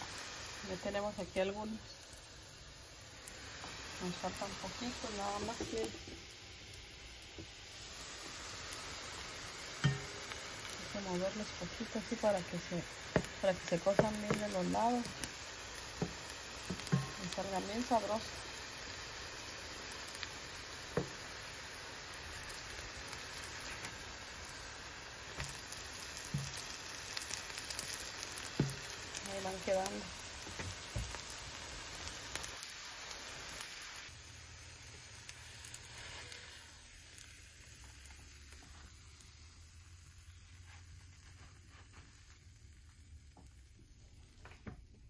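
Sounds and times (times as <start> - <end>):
fritters frying in hot oil: 0.0 - 45.0.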